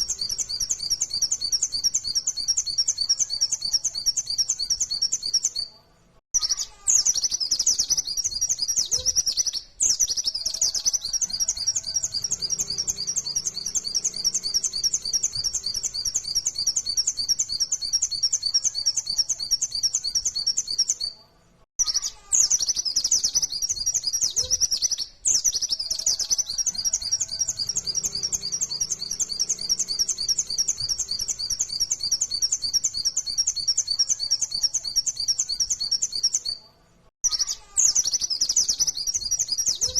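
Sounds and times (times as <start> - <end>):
bird twittering song: 0.0 - 5.8, 6.4 - 21.2, 21.8 - 36.6, 37.2 - 39.9.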